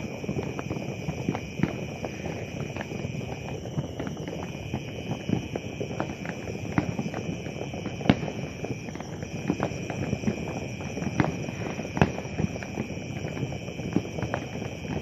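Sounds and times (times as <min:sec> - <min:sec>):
fireworks popping and crackling: 0:00.0 - 0:15.0
fireworks sharp bangs: 0:00.0 - 0:15.0.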